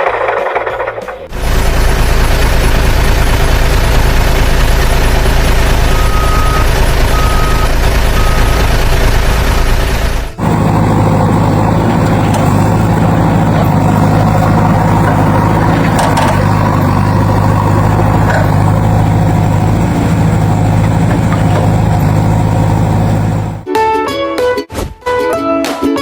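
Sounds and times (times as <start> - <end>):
heavy diesel engine idling: 0.0 - 23.6.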